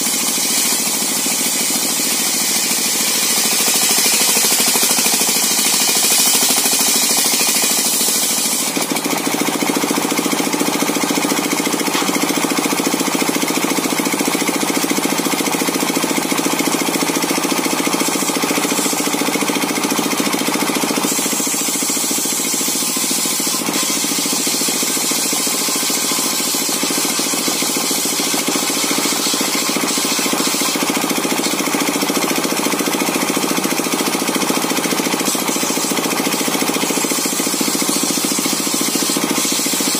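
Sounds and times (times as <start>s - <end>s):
circular saw cutting timber: 0.0s - 39.9s.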